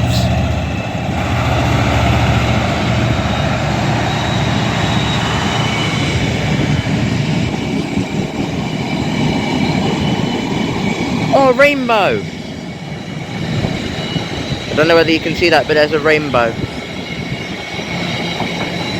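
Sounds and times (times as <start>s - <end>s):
train wheels rumbling on rails: 0.0s - 18.9s
wheel squeal whine: 0.0s - 18.9s.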